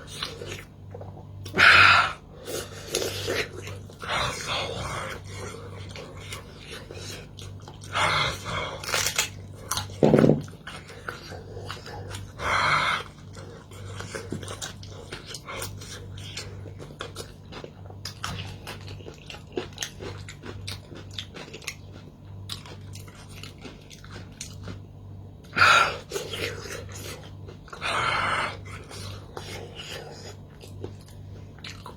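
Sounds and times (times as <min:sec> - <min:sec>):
chewing and crunching: 0:00.0 - 0:31.9.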